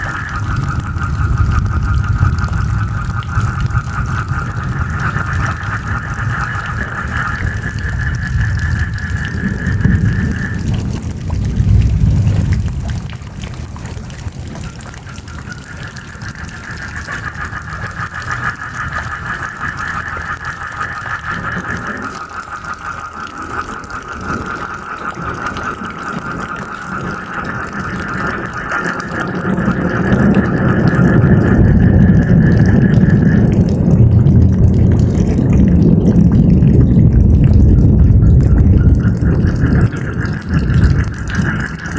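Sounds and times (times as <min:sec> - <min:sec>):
frogs calling: 0:00.0 - 0:13.5, 0:14.1 - 0:41.9
rain hiss: 0:00.0 - 0:41.9
thunder rumbling: 0:00.0 - 0:41.9.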